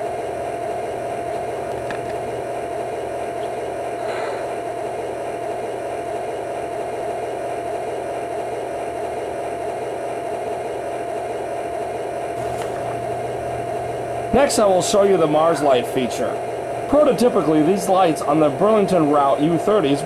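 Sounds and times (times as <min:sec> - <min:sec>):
model locomotive diesel idle: 0:00.0 - 0:20.0.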